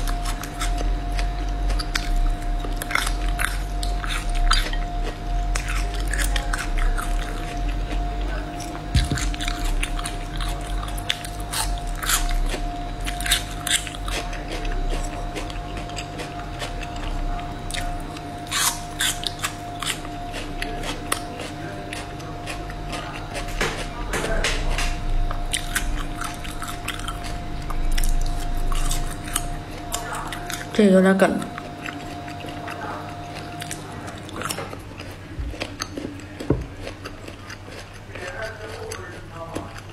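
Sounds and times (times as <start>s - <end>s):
wet chewing with clicks: 0.0s - 39.9s.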